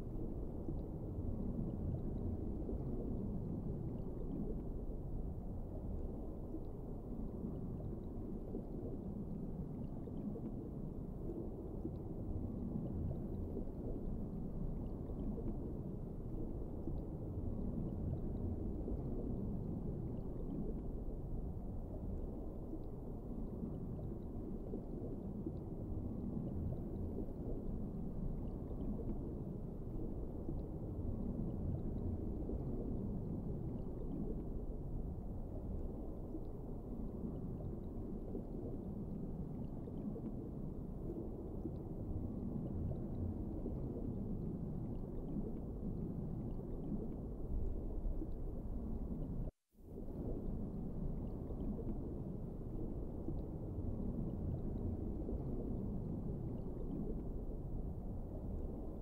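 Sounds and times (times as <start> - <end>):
muffled underwater rumble: 0.0 - 59.0.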